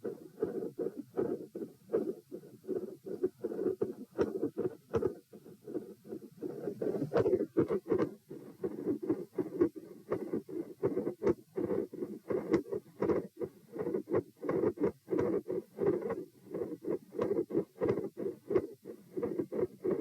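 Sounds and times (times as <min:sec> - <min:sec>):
lub-dub heartbeat: 0:00.0 - 0:20.0
rustling heart murmur: 0:00.0 - 0:20.0.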